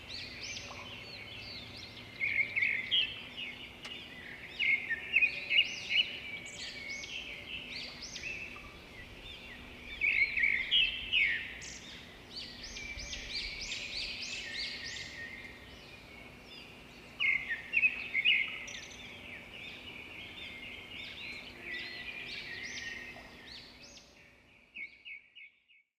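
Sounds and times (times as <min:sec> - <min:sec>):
songbirds chirping and trilling: 0:00.0 - 0:25.9.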